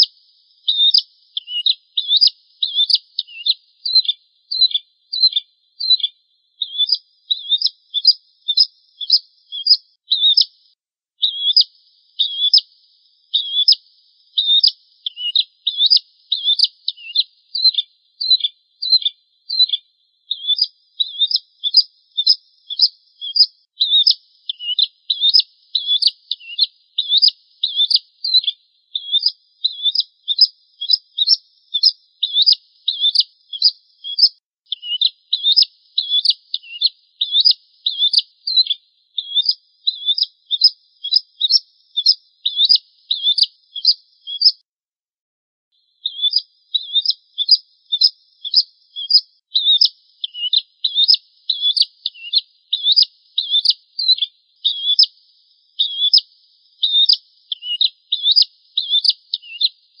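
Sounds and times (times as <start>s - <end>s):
bird singing high chirps: 0.0s - 44.6s, 46.0s - 60.0s.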